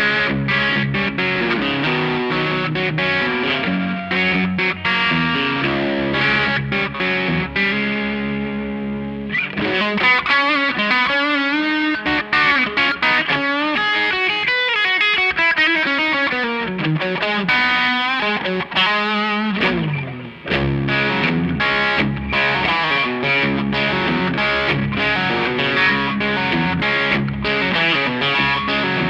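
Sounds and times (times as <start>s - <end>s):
overdriven electric guitar lead: 0.0s - 29.0s.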